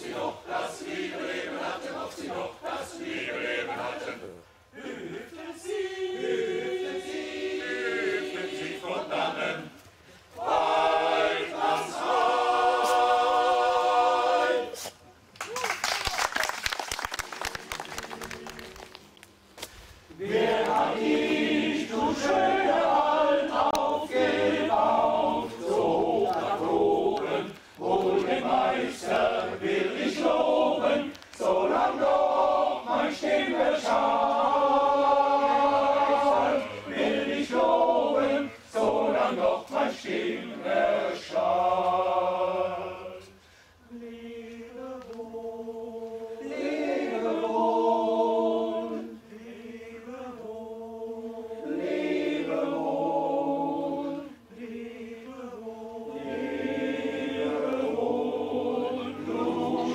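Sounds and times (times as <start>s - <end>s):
choir singing a cappella: 0.0s - 15.1s, 20.1s - 59.9s.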